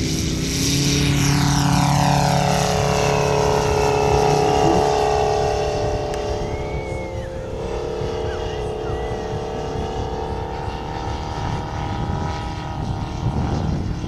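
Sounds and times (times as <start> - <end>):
model plane engine passing by: 0.0 - 14.0.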